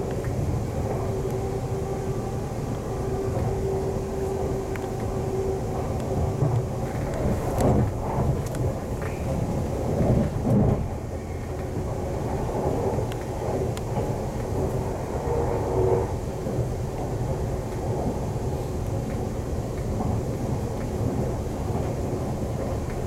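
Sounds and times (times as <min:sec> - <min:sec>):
train rumble inside carriage: 0:00.0 - 0:23.0.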